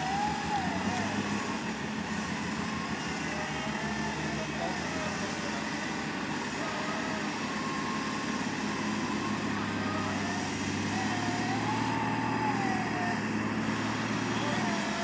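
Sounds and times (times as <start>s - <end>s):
engine running: 0.0s - 15.0s
thin wavering whine: 0.0s - 15.0s.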